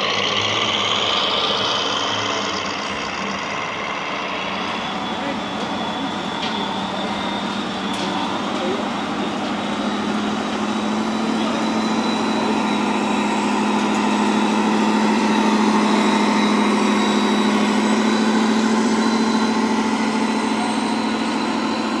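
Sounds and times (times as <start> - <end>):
diesel engine sound from speaker: 0.0 - 22.0.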